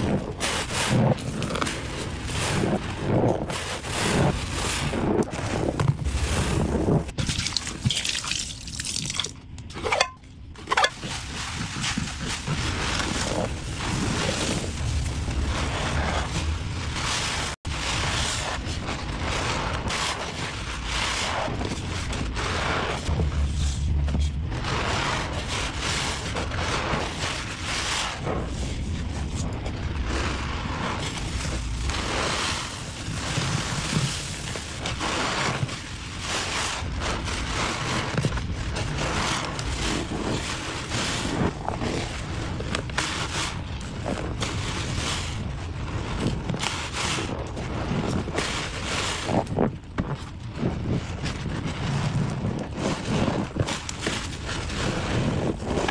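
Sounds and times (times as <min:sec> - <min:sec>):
sponge squelching foam: 0:00.0 - 0:55.9.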